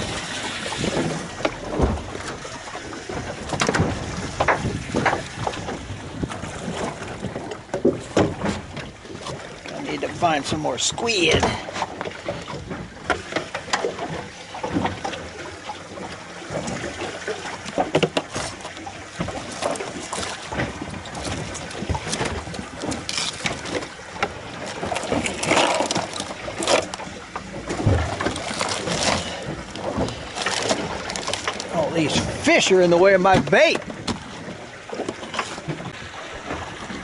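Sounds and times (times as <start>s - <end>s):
water sounds: 0.0s - 37.0s.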